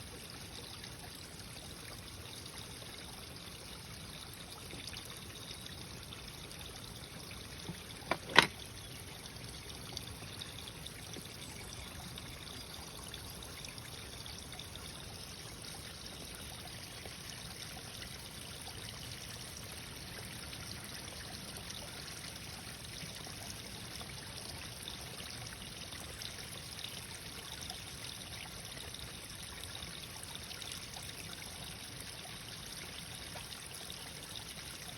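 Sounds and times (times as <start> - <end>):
water trickling: 0.0 - 34.9.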